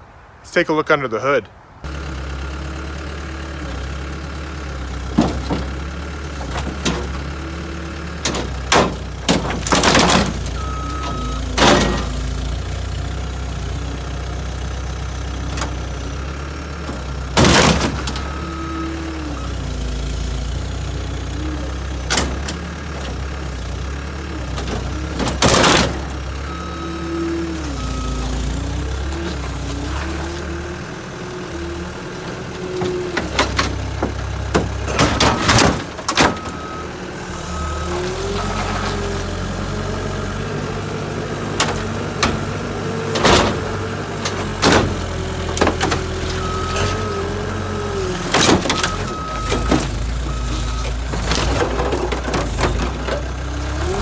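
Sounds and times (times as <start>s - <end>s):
skid steer engine running: 1.8s - 54.0s
metal crunches and bangs: 3.6s - 54.0s.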